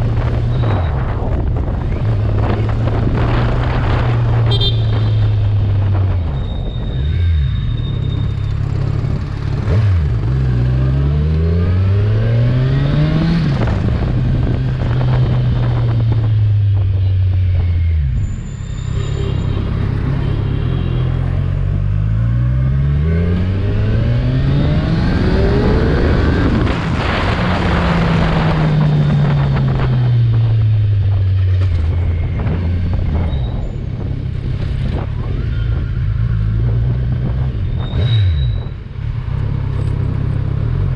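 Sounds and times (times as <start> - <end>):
motorcycle engine accelerating: 7.0 - 18.3, 19.1 - 40.9.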